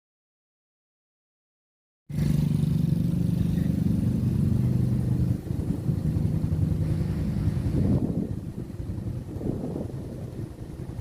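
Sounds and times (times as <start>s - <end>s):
engine running: 2.1s - 11.0s.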